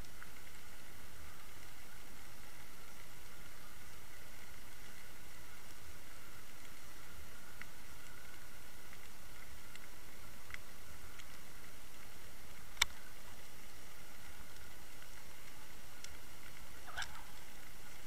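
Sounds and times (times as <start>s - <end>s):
faint clicks: 0.0s - 18.0s.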